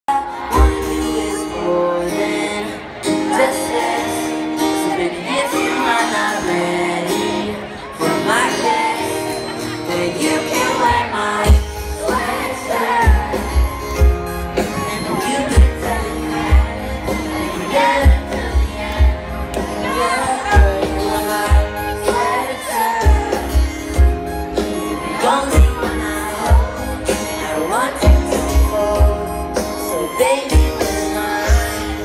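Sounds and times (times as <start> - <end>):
person singing: 0.1 - 32.0.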